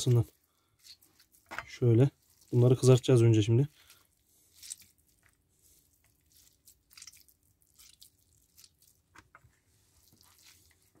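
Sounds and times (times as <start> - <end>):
hands squishing minced meat: 0.0 - 11.0.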